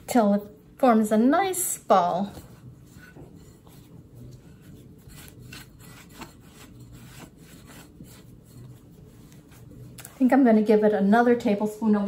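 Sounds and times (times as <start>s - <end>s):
hands kneading dough in bowl: 0.0s - 12.0s.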